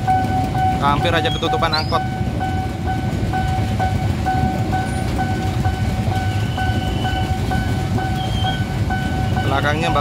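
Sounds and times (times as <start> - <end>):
electronic crossing bell dinging: 0.0 - 10.0
train carriages rumbling past: 0.0 - 10.0.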